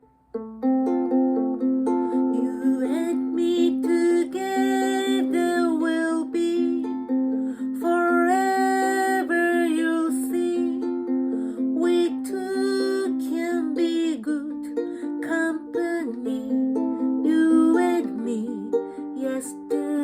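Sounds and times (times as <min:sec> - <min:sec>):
ukulele picking: 0:00.0 - 0:20.0
person singing: 0:00.6 - 0:20.0.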